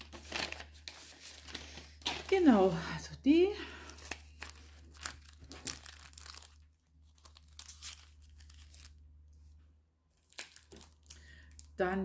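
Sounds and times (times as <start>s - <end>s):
plastic packaging crinkling: 0.0s - 2.8s, 3.6s - 9.1s, 10.1s - 11.8s.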